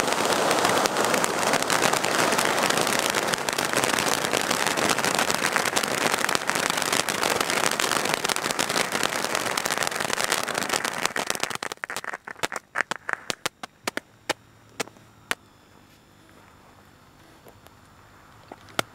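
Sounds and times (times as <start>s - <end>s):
firework fountains hissing: 0.0s - 15.4s
sharp crackles and pops: 0.0s - 18.9s.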